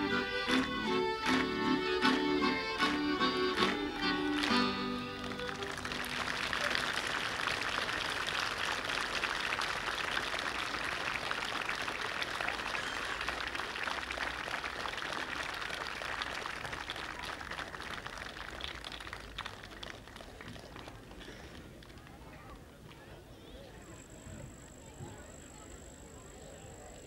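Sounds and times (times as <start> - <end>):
crowd applause: 0.0 - 22.2.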